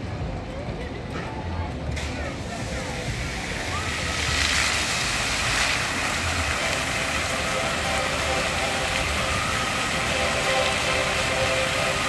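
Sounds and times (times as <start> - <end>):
fountain water jets spraying: 2.0 - 12.0.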